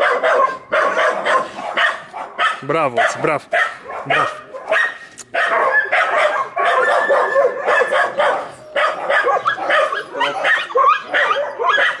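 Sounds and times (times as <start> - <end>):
dogs yipping and barking: 0.0 - 12.0.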